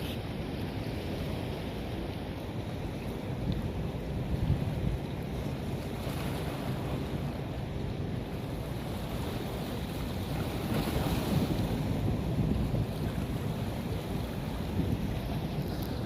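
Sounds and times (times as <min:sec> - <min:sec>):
rushing water: 0:00.0 - 0:16.0
wind buffeting microphone: 0:00.7 - 0:16.0.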